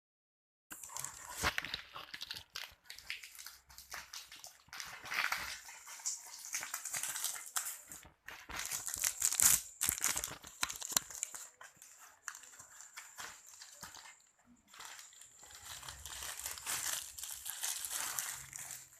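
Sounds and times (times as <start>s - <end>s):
packaging rustling: 0.7s - 18.9s.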